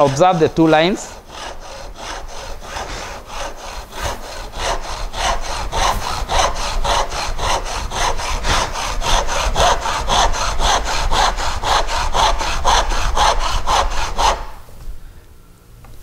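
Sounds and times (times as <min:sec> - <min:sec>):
hand saw cutting timber: 0:00.0 - 0:14.6.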